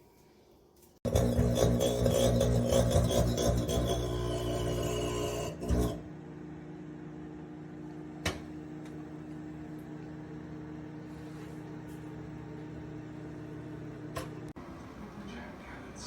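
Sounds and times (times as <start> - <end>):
microwave humming: 1.0 - 15.0.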